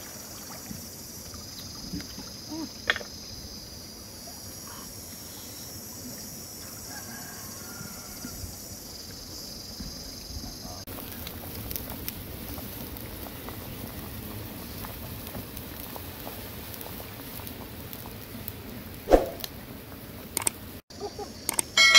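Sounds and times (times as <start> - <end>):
broth boiling hard: 0.0 - 9.0, 10.2 - 20.8
outdoor ambience: 0.0 - 21.9.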